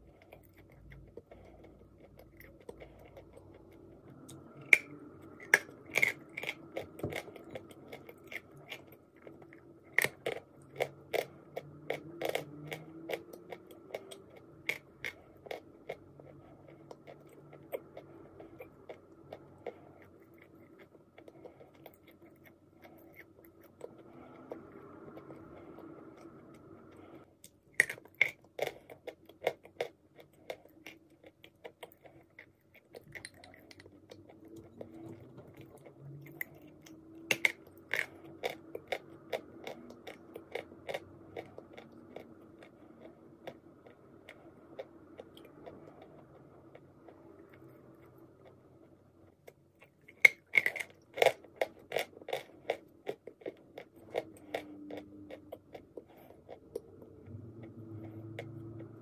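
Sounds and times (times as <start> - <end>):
crunchy chewing: 0.0 - 59.0
soft chewing: 0.0 - 59.0.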